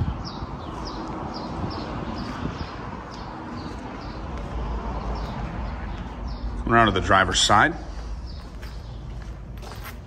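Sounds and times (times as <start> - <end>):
footsteps on concrete: 0.6 - 6.7, 7.7 - 10.0.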